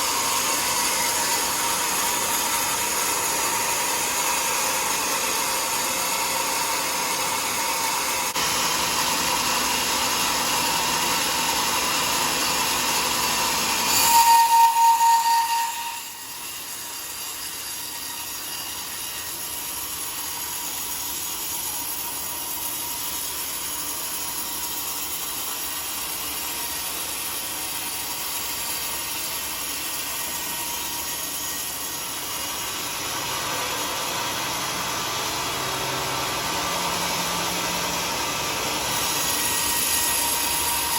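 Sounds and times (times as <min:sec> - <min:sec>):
sawmill cutting log: 0:00.0 - 0:40.9.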